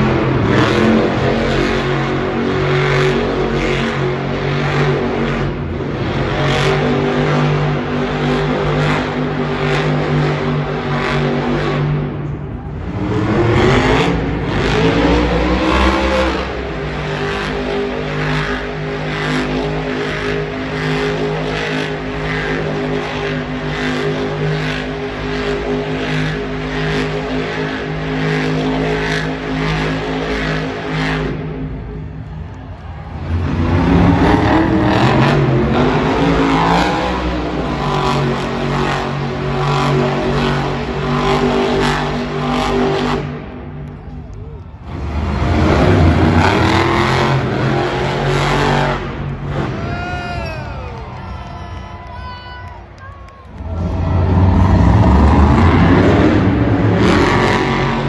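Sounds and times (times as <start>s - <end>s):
monster truck engines revving: 0.0s - 58.0s.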